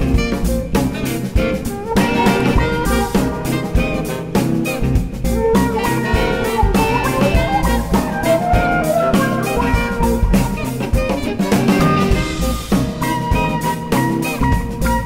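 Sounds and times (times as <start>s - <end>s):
drum kit: 0.0s - 15.0s
guitar: 0.0s - 15.0s
jazz band playing: 0.0s - 15.0s.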